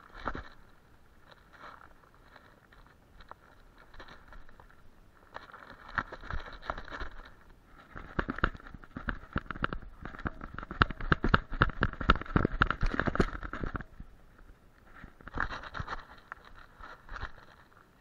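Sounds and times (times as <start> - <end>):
crackling and thuds in dry heather: 0.0 - 18.0.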